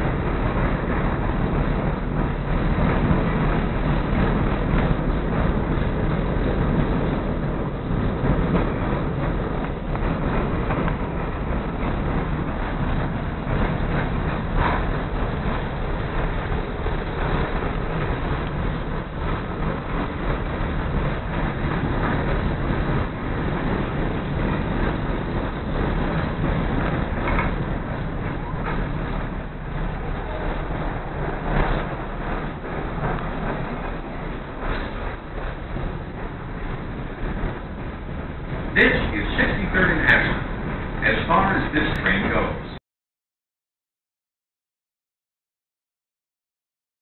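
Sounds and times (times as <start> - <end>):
train wheels rumbling on rails: 0.0 - 42.8.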